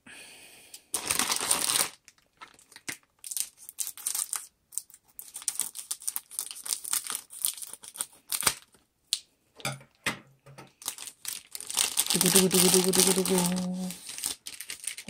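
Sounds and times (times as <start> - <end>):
plastic bag crinkling: 0.9 - 8.8, 10.8 - 15.0.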